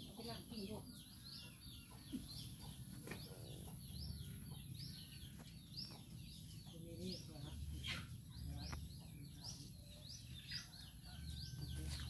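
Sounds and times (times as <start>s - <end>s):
faint outdoor background noise: 0.0s - 12.0s
small birds chirping: 0.0s - 12.0s.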